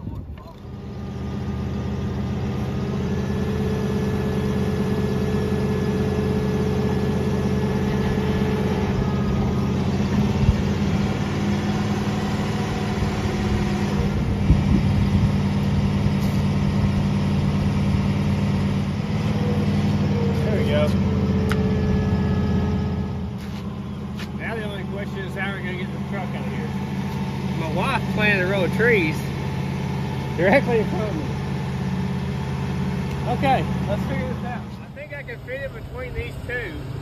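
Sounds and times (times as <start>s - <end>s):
engine at fast idle: 0.1s - 37.0s.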